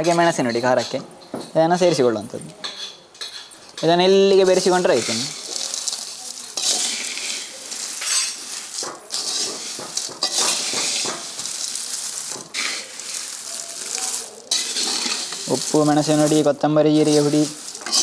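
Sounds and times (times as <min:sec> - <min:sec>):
fried mixture rustling and crackling: 0:00.0 - 0:18.0
metal ladle scraping pan: 0:02.6 - 0:18.0.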